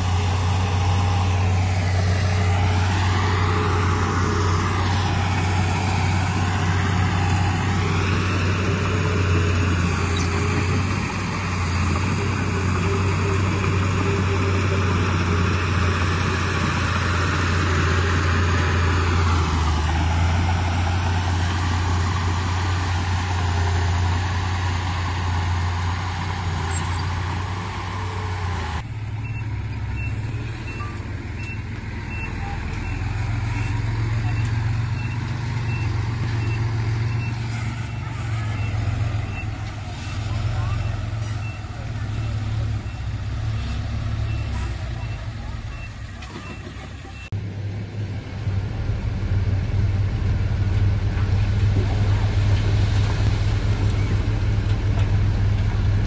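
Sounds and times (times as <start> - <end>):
bulldozer diesel engine working: 0.0 - 56.0.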